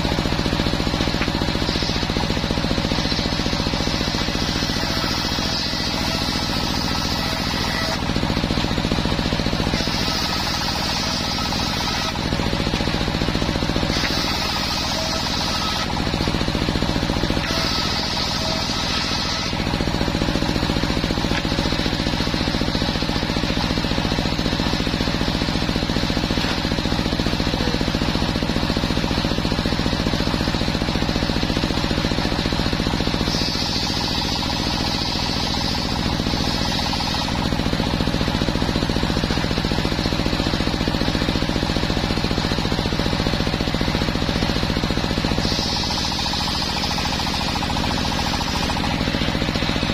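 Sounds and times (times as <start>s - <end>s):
circular saw cutting wood: 0.0s - 49.9s.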